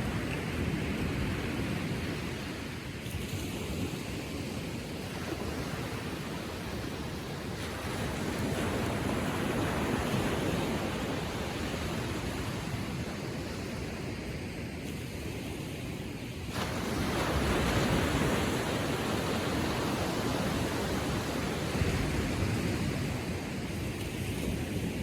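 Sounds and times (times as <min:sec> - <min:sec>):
ocean waves washing on shore: 0:00.0 - 0:25.0.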